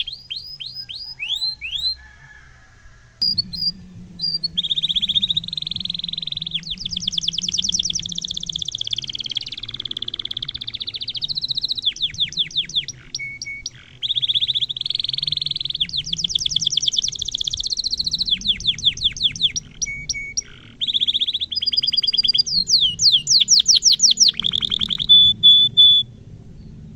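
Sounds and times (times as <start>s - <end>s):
canary singing trills: 0.0s - 2.0s, 3.2s - 26.8s.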